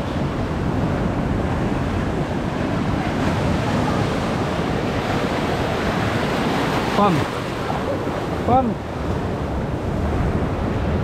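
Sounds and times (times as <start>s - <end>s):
surf breaking on rocks: 0.0s - 9.4s.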